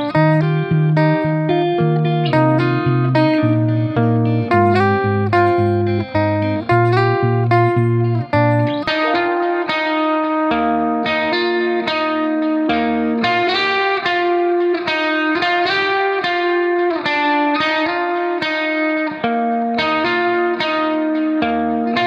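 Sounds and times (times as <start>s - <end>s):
instrumental music melody: 0.0s - 22.0s.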